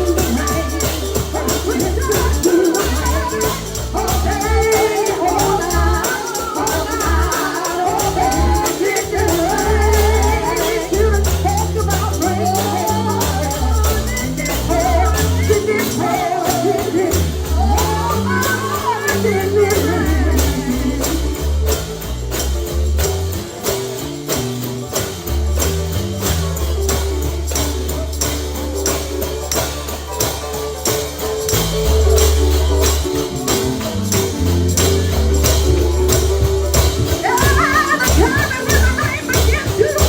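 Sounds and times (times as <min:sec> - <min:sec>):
voices singing gospel: 0:00.0 - 0:22.6, 0:25.4 - 0:40.0
stepping bass line: 0:00.0 - 0:40.0
tambourine shaken to a beat: 0:00.0 - 0:40.0.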